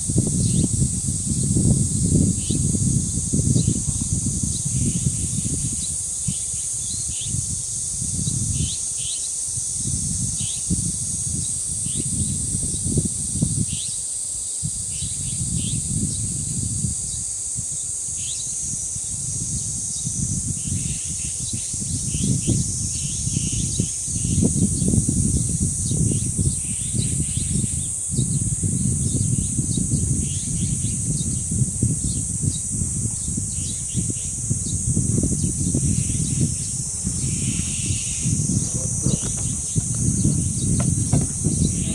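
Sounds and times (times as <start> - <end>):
wind rumbling on microphone: 0.0 - 14.0, 14.6 - 41.9
cicadas buzzing: 0.0 - 41.9.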